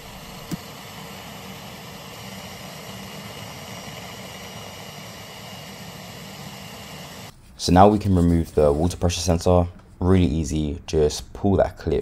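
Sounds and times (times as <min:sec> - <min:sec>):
mechanical hum with hiss: 0:00.0 - 0:10.9.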